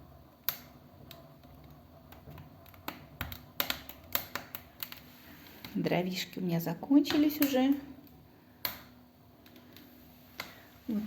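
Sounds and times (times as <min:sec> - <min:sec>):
low steady background noise: 0:00.0 - 0:11.0
wood fire crackling: 0:00.0 - 0:11.0.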